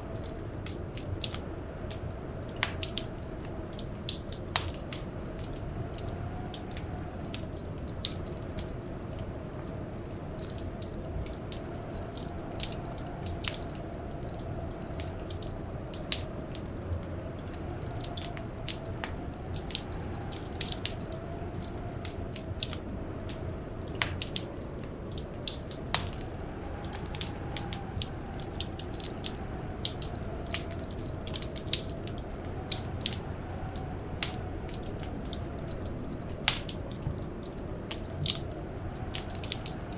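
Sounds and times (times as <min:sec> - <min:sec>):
faint wind howl: 0:00.0 - 0:39.9
wood fire crackling and popping: 0:00.0 - 0:39.9.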